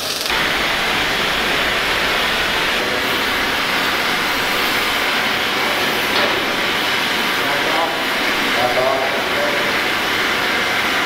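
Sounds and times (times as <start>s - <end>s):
arc welding hiss: 0.0s - 11.0s
cutting torch flame hissing: 0.0s - 11.0s.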